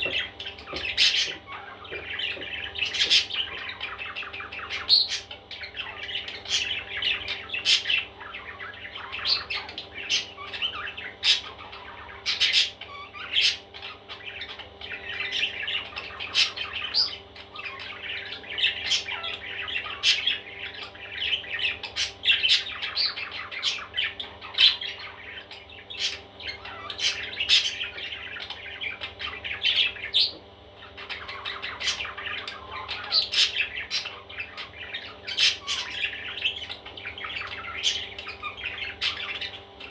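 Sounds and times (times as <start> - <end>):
baby parrots squawking: 0.0 - 39.9.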